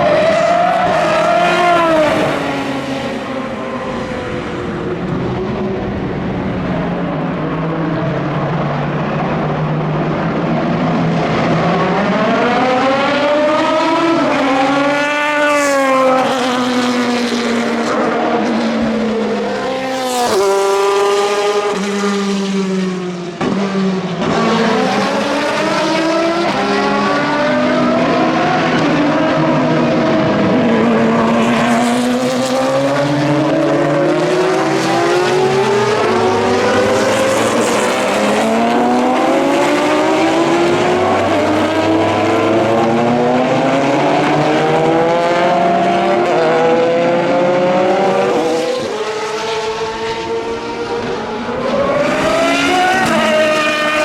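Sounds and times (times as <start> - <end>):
racing car engines shifting gears: 0.0 - 54.0.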